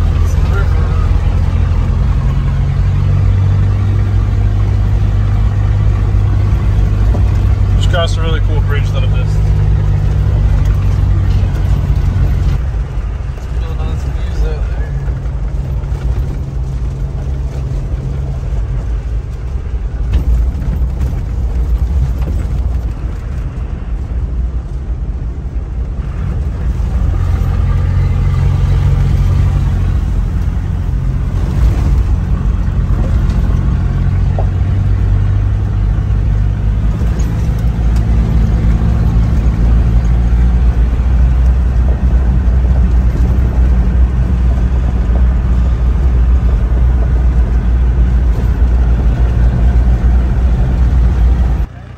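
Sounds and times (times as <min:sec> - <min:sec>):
diesel engine running: 0:00.0 - 0:51.9
tyres on gravel road noise: 0:00.0 - 0:51.9.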